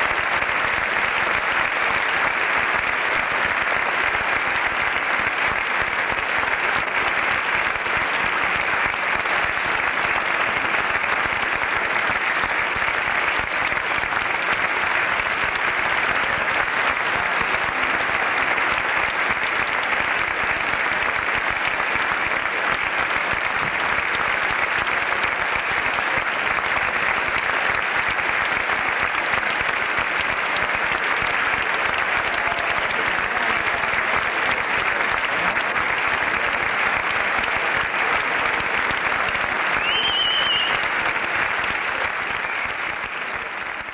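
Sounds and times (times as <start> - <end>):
audience applauding: 0.0 - 43.9.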